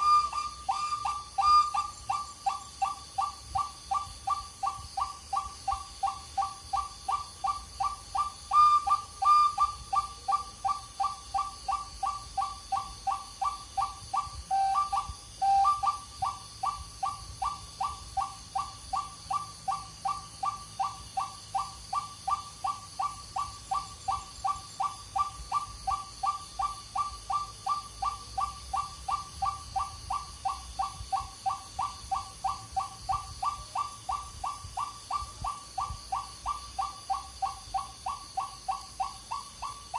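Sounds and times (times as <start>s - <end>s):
bird whistled calls: 0.0s - 39.9s.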